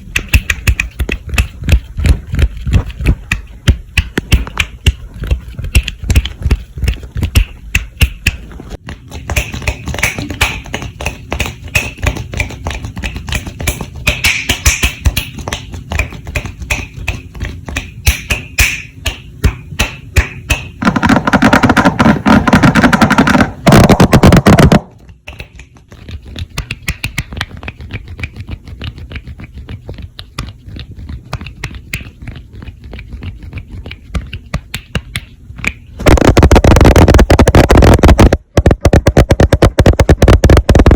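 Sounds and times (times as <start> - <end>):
quick hand taps and clicks: 0.0 - 40.9.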